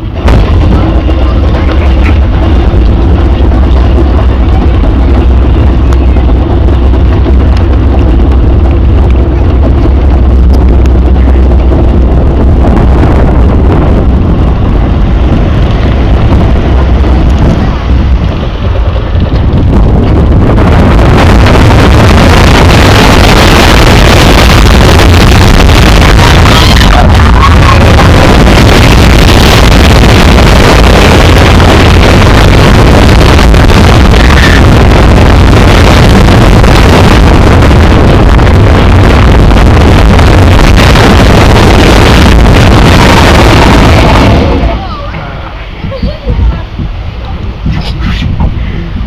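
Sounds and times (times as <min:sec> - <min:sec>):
roller coaster train rumbling: 0:00.0 - 0:49.0
wind rushing over microphone: 0:00.0 - 0:49.0.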